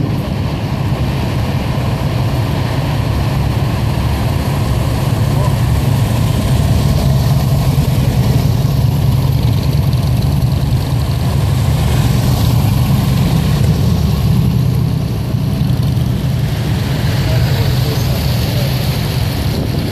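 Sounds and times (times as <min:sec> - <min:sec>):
vehicle engines low rumble: 0:00.0 - 0:19.9.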